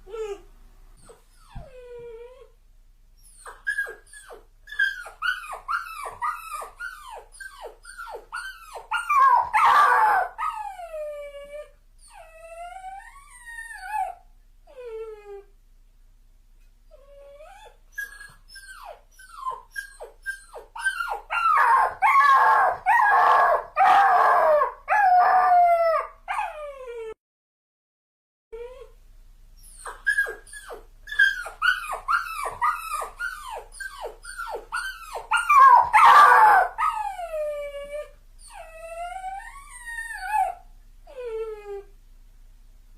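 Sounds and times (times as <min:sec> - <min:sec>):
dog whimpering and howling: 0:00.0 - 0:02.6, 0:03.2 - 0:15.5, 0:16.9 - 0:27.2, 0:28.6 - 0:29.0, 0:29.6 - 0:41.9.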